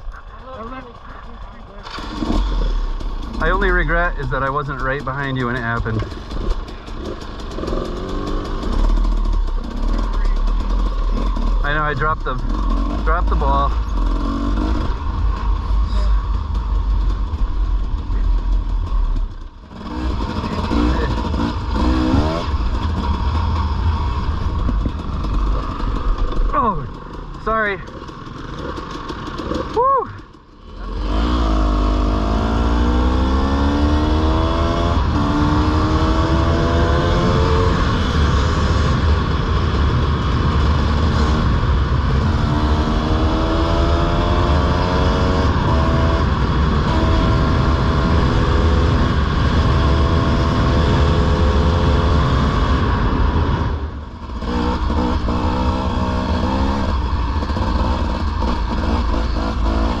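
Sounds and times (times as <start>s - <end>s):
dirt bike engine revving: 0.6s - 60.0s.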